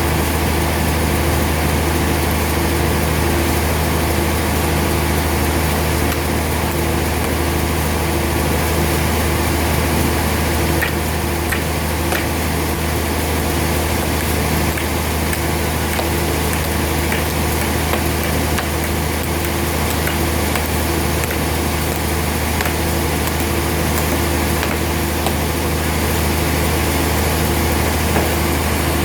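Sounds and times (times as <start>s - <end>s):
sawmill machinery humming: 0.0s - 29.0s.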